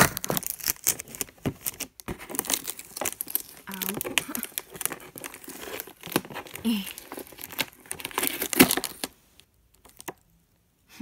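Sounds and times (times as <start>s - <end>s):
packaging crinkling and tearing: 0.0s - 10.2s.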